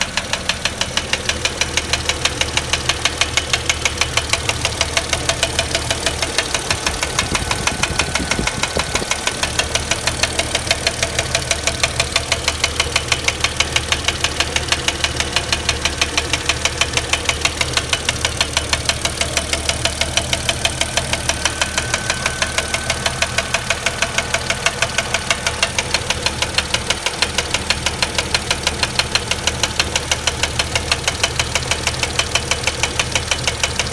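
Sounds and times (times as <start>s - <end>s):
car engine idling with knock: 0.0s - 33.9s.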